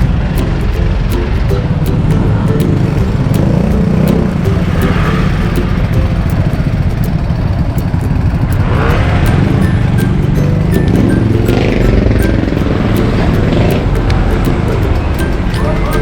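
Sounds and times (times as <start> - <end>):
motor vehicle passing: 0.0 - 16.0.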